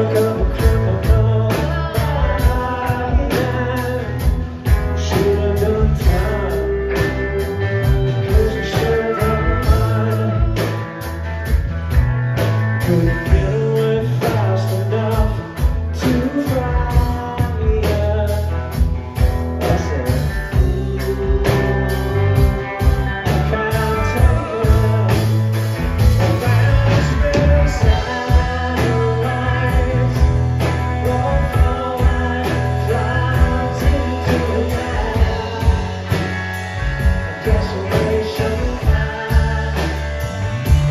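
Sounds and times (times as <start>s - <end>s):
person singing: 0.0s - 10.9s, 12.8s - 18.9s, 19.6s - 25.6s, 26.2s - 40.9s
drums keeping a beat: 0.0s - 40.9s
electric bass: 0.0s - 40.9s
electric guitars: 0.0s - 40.9s.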